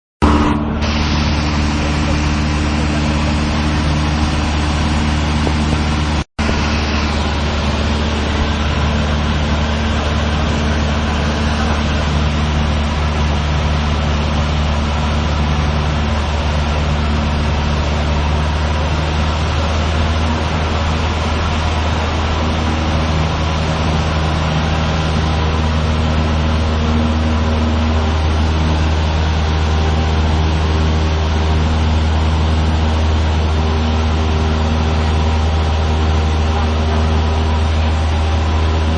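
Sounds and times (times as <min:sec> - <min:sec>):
light aircraft engine droning: 0:00.2 - 0:38.9.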